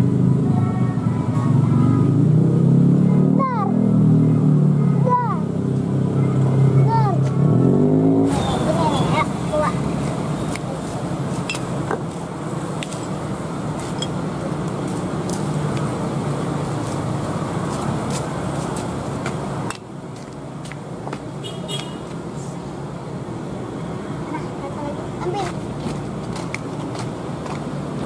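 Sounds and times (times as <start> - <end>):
engine rumble: 0.0 - 28.0.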